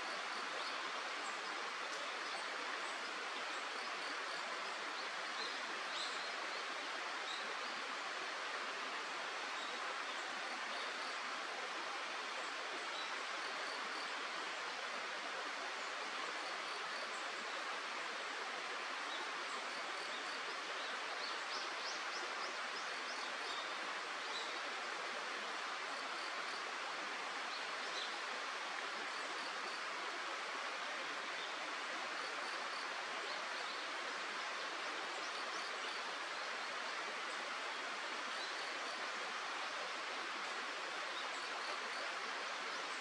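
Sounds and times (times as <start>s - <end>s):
stream water rushing: 0.0s - 43.0s.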